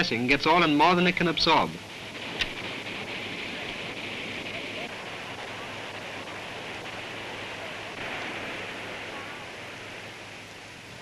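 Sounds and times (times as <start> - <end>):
film soundtrack hiss: 0.0 - 11.0
flood water rushing: 0.0 - 11.0.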